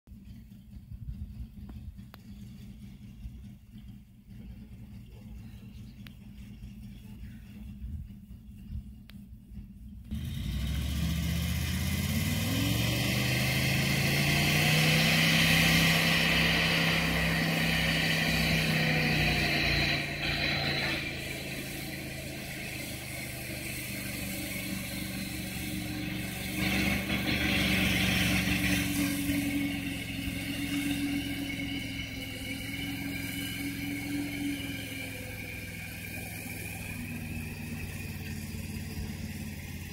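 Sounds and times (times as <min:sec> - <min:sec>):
winch engine revving: 0:00.2 - 0:39.9.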